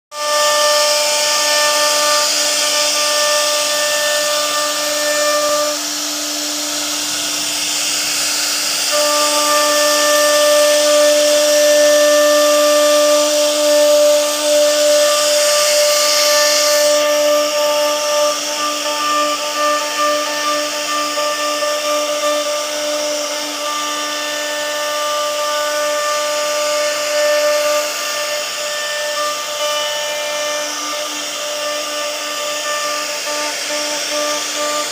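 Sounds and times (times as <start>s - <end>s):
router spindle whining: 0.1s - 34.9s
cutter hissing in wood: 0.2s - 34.9s.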